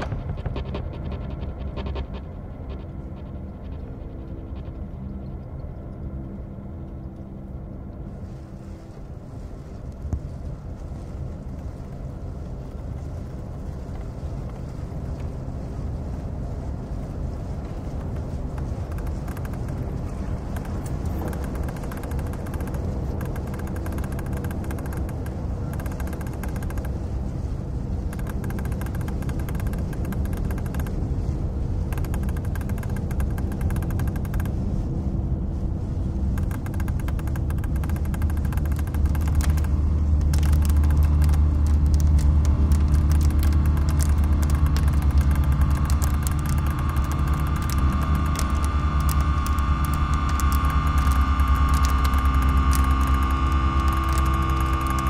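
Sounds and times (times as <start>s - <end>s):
droning electroacoustic music: 0.0s - 55.0s.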